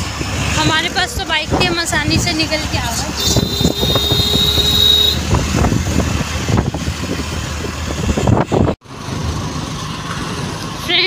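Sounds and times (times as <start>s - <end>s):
wind buffeting microphone: 0.0s - 9.5s
motorcycle road noise: 0.0s - 11.0s.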